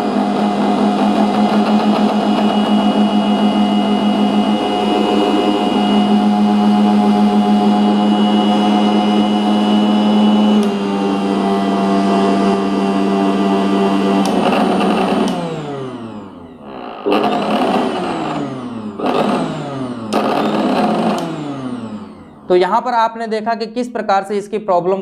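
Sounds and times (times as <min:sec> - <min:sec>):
mixer grinder motor whining: 0:00.0 - 0:23.0.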